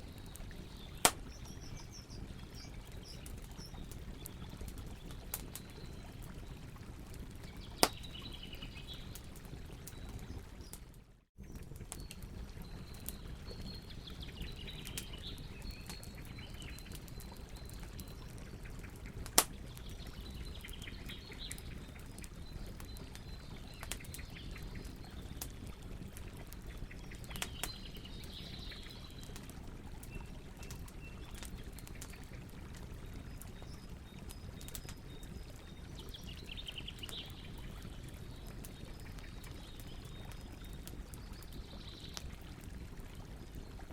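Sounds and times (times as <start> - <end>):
campfire rumbling: 0.0 - 10.8, 11.4 - 43.9
fire crackling and popping: 0.0 - 43.9.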